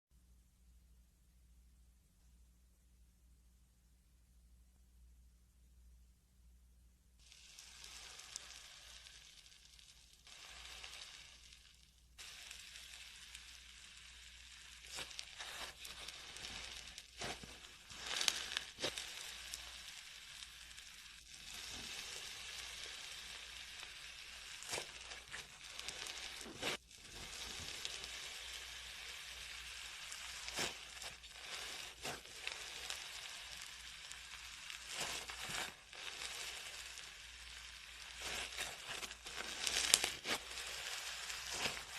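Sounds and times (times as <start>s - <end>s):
slime crackling and popping: 7.2s - 41.9s.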